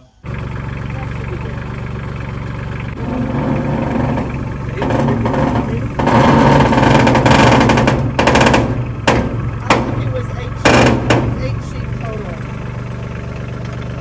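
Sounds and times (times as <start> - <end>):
loud mechanical noise: 0.0 - 14.0
vehicle engine idling: 0.0 - 14.0
rapid clicks: 0.2 - 14.0.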